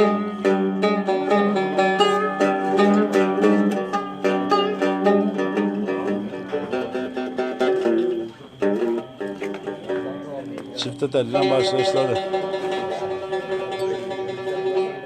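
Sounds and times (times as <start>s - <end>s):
fretless lute fast picked runs: 0.0s - 15.0s.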